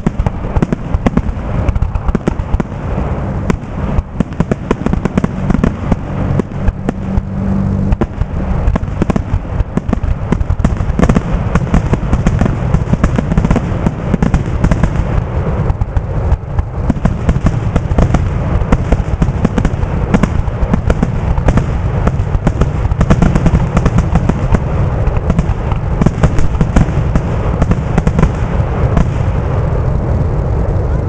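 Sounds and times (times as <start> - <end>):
deep booms: 0.0 - 31.0
fireworks bursting: 0.0 - 31.0.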